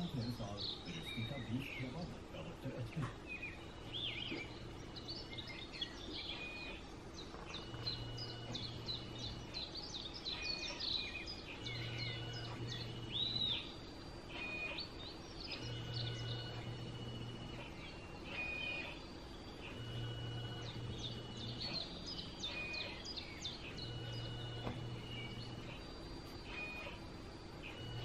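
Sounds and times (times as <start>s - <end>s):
low hum: 0.0s - 28.0s
small birds chirping: 0.0s - 28.0s.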